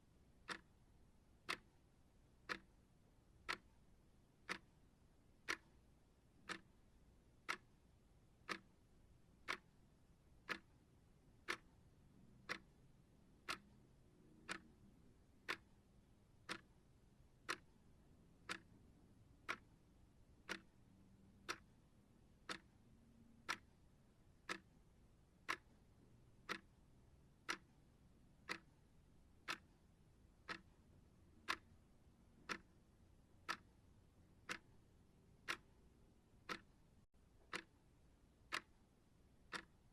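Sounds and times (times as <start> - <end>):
clock ticking: 0.4 - 0.8, 1.4 - 3.8, 4.4 - 4.8, 5.4 - 5.8, 6.4 - 9.8, 10.4 - 15.8, 16.4 - 39.9.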